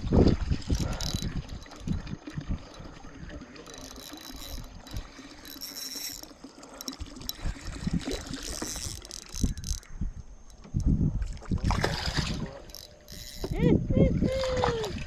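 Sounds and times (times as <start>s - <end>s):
water sloshing against boat hull: 0.0s - 15.0s.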